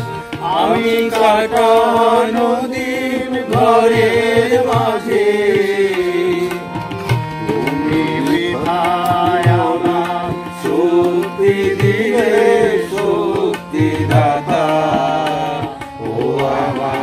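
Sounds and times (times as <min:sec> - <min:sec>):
harmonium chords: 0:00.0 - 0:17.0.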